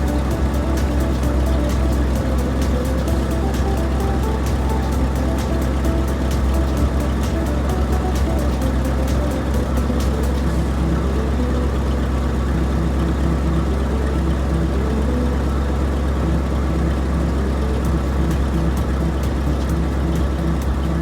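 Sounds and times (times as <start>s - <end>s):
cartoon truck engine rumble: 0.0s - 21.0s
simple background tune: 0.0s - 21.0s.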